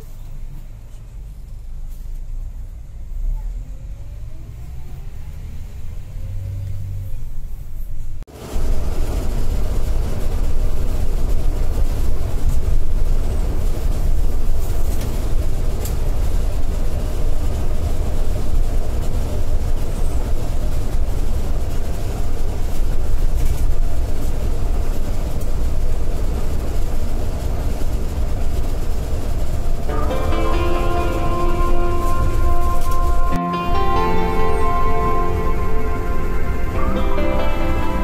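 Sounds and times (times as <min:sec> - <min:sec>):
coach engine rumble: 0:00.0 - 0:38.0.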